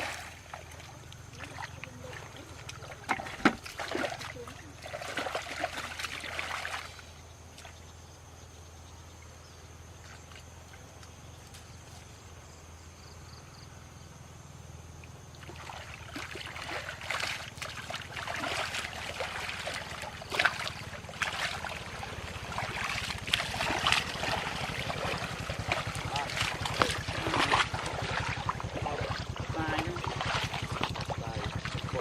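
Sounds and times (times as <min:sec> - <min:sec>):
water splashing and trickling: 0:00.0 - 0:08.0, 0:09.2 - 0:12.2, 0:14.9 - 0:32.0
low steady hum: 0:00.0 - 0:32.0.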